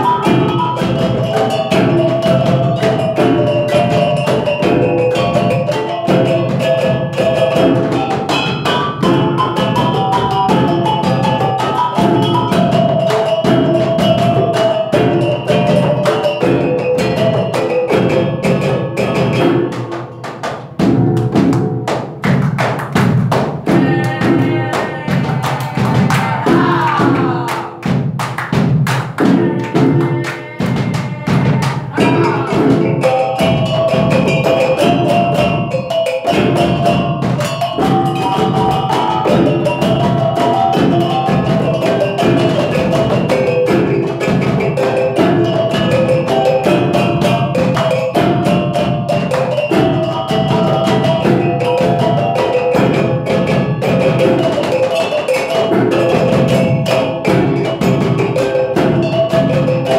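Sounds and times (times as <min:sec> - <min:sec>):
drums: 0:00.0 - 0:59.9
hands clapping in rhythm: 0:00.0 - 0:59.9
kettle gongs struck rhythmically: 0:00.0 - 0:59.9.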